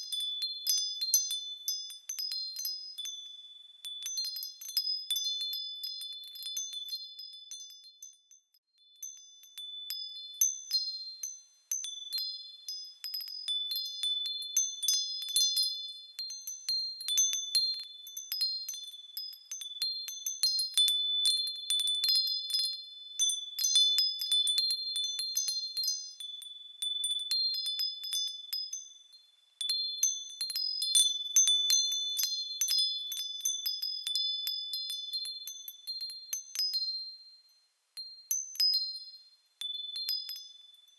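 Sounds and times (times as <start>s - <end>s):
small bells tinkling: 0.0s - 40.9s.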